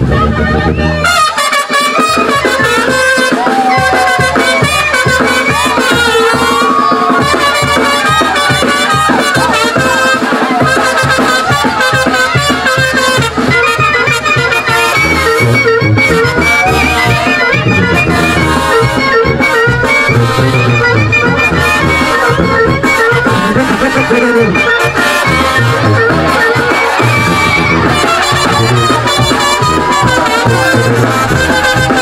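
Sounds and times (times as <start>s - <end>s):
folk dance music: 0.0s - 32.0s.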